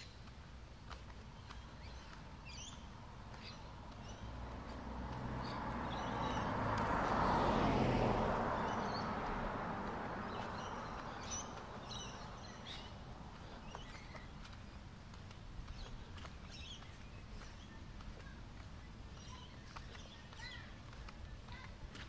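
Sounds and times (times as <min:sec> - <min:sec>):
small birds chirping: 0:00.0 - 0:22.0
car passing: 0:01.8 - 0:22.0.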